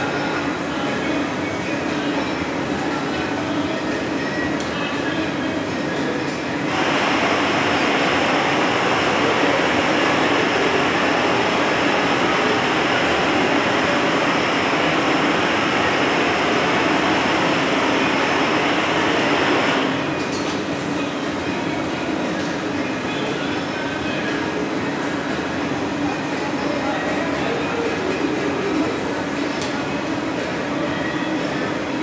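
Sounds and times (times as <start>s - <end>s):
gas burners roaring hiss: 0.0s - 32.0s.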